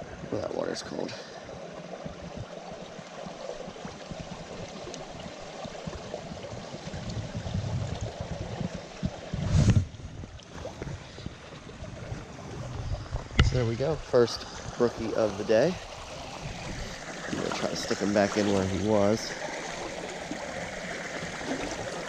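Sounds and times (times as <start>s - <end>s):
mountain stream babbling: 0.0s - 9.4s, 10.0s - 22.0s.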